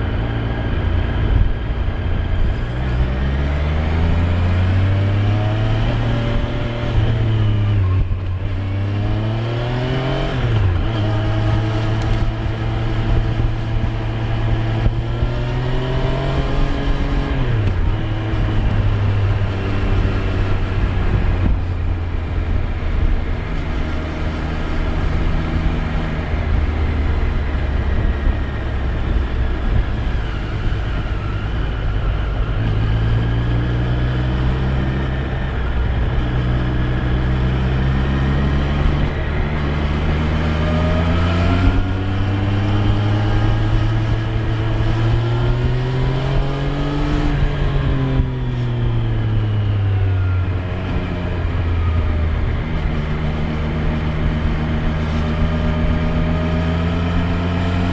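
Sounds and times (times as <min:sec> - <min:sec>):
motorcycle engine revving through gears: 0:00.0 - 0:57.9.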